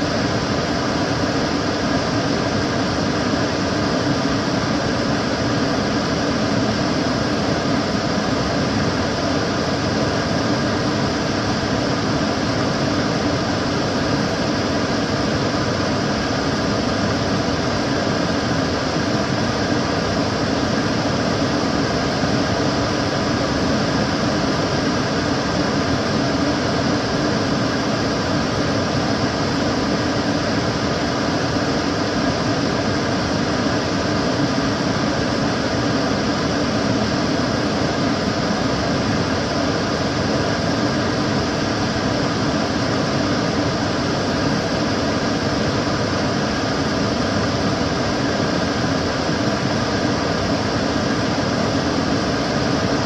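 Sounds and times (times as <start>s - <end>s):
extractor fan air rushing: 0.0s - 53.0s.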